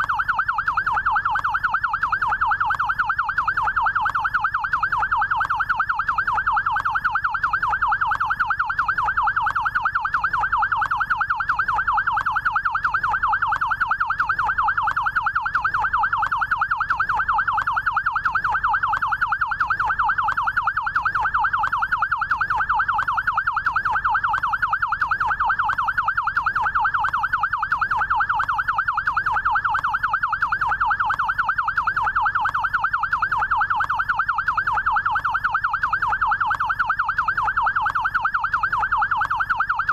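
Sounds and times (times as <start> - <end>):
electronic siren yelp: 0.0 - 39.9.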